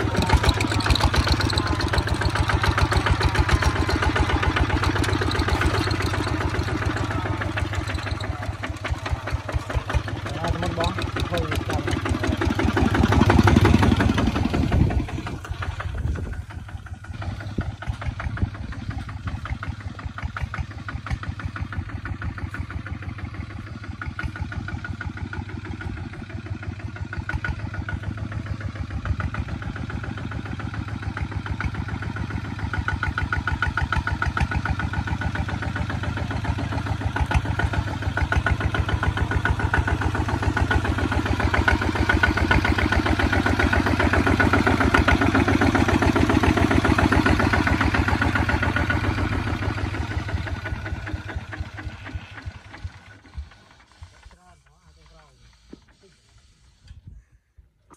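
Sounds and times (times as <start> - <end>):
diesel tractor engines chugging: 0.0 - 57.0.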